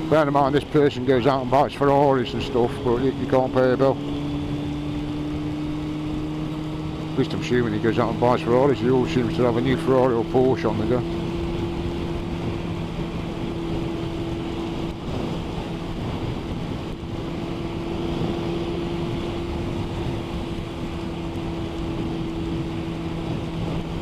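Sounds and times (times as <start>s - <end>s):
motorcycle engine droning: 0.0s - 24.0s
wind noise on microphone: 0.0s - 24.0s.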